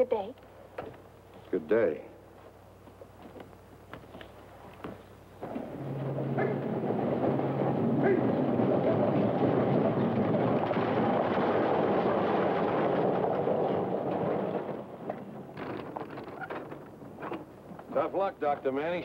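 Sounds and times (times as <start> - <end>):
horses galloping: 2.8 - 19.0.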